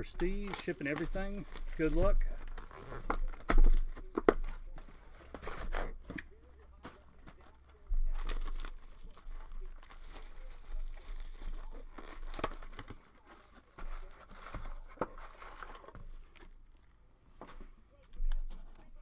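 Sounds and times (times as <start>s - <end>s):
plastic wrapping tearing and crinkling: 0.0s - 19.0s.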